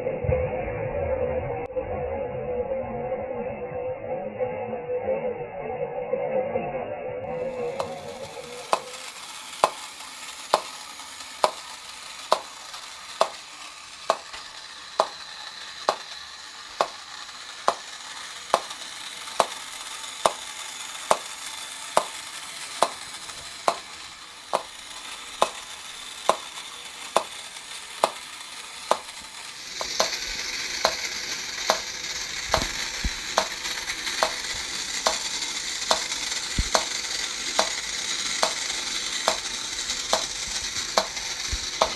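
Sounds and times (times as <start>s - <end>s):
popcorn balls rattling in toy: 7.3s - 41.9s
toy mechanism clicking: 7.3s - 41.9s.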